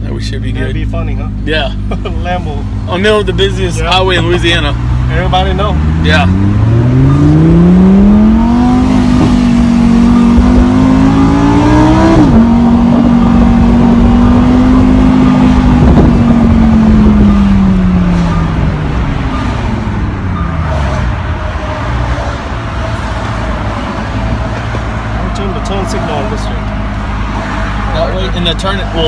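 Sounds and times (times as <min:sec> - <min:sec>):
sports car engine accelerating: 0:00.0 - 0:29.0.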